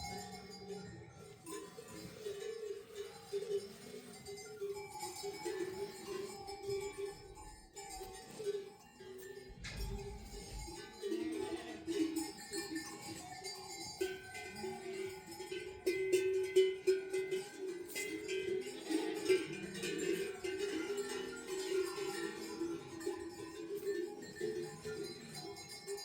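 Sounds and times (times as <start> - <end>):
livestock bells clanking: 0.0 - 26.0.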